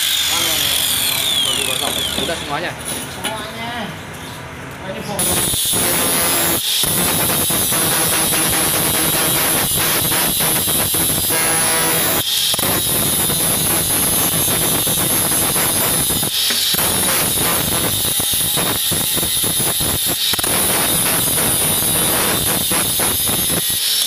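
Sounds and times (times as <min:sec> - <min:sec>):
angle grinder cutting metal: 0:00.0 - 0:02.7, 0:05.2 - 0:24.0.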